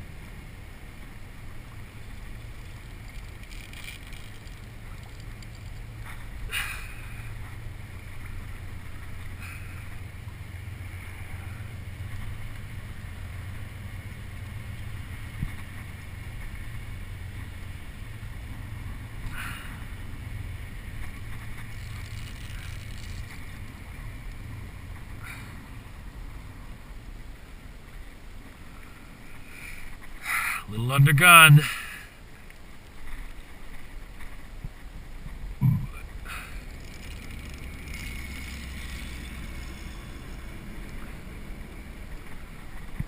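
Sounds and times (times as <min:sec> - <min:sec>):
wind rumble on microphone: 0:00.0 - 0:30.2, 0:32.3 - 0:43.0
water lapping along kayak hull: 0:00.0 - 0:43.0.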